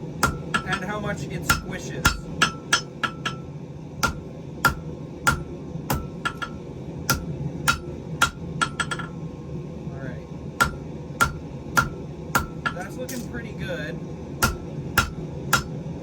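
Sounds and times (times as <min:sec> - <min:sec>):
low hum: 0:00.0 - 0:16.0
hammer blows on iron on anvil: 0:00.2 - 0:09.2, 0:10.6 - 0:13.3, 0:14.4 - 0:15.8.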